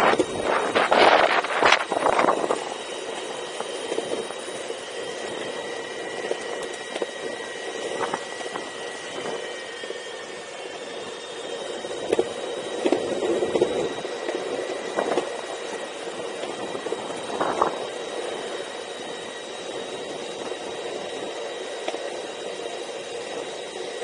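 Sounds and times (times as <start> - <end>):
engine-like drone: 0.0 - 24.0
high-pitched whining tones: 0.0 - 24.0.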